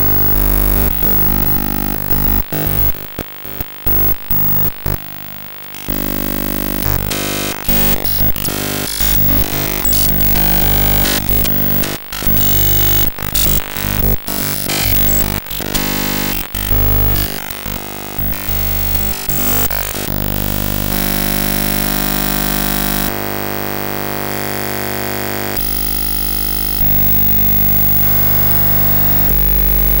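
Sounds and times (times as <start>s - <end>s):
glitchy electronic buzz: 0.0s - 30.0s.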